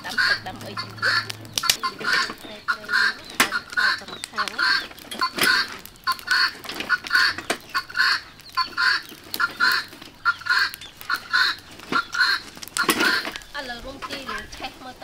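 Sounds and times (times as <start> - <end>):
fowl calling harshly: 0.0 - 14.5
wood fire cracking: 0.0 - 15.0.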